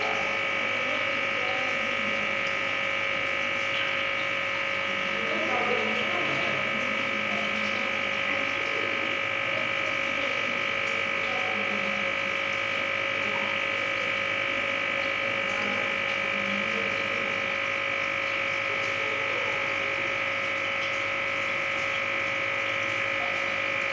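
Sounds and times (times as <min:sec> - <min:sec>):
aquarium humming: 0:00.0 - 0:23.9.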